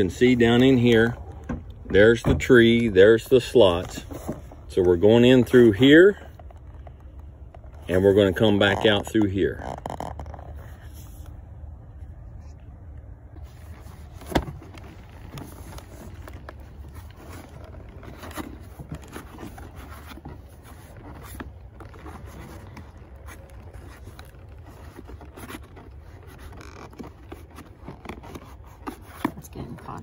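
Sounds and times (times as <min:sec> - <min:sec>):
leather scraping and rubbing: 0:01.9 - 0:30.0.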